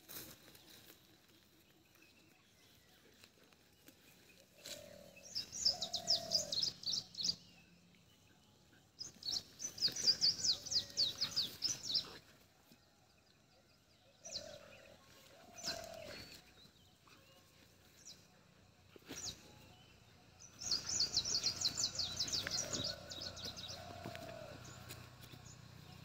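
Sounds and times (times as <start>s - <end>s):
bird chirping: 4.1s - 26.0s.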